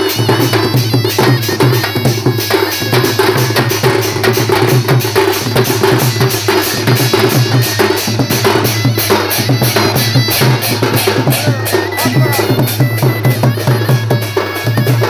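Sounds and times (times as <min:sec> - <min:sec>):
folk drum band playing: 0:00.0 - 0:15.0.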